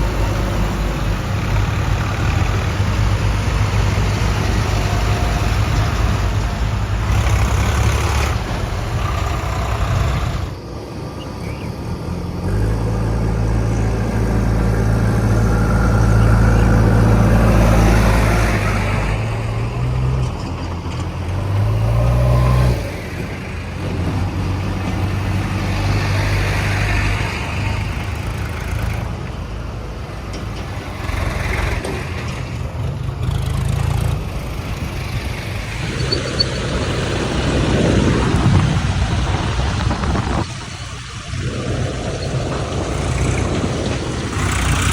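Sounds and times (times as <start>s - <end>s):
diesel engine under load: 0.0s - 44.9s.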